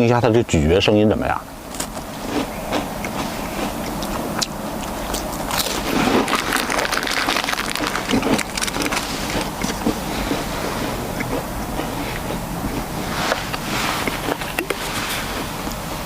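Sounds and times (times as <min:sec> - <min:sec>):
person chewing cracker: 0:01.7 - 0:15.8.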